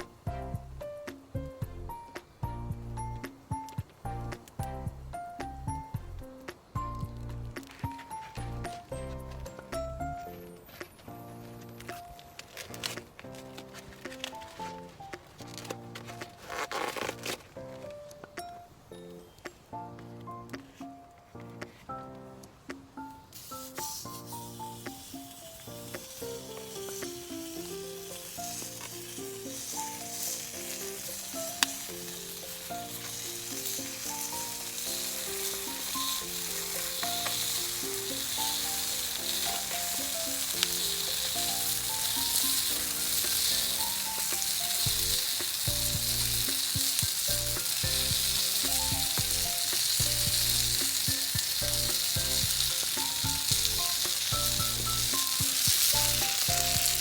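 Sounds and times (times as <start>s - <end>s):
meat sizzling on a grill: 0.0s - 17.9s, 23.2s - 57.0s
background music: 0.0s - 57.0s.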